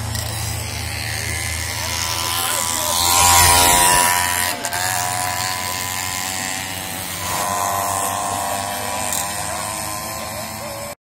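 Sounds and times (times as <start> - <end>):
moped engines buzzing: 0.0 - 11.0.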